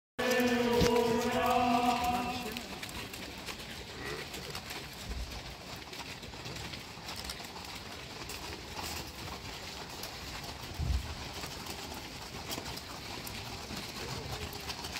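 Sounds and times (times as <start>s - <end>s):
hooves on gravel: 0.2s - 14.9s.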